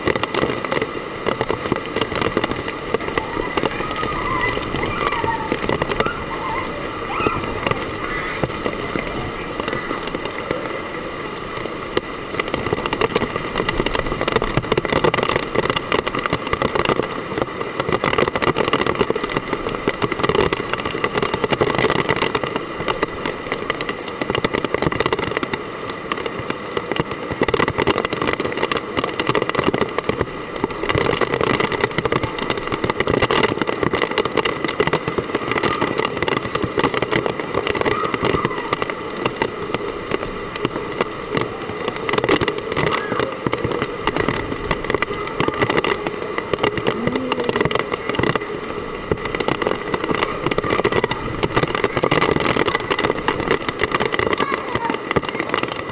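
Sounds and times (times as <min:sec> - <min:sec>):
heavy rain pelting down: 0:00.0 - 0:55.9.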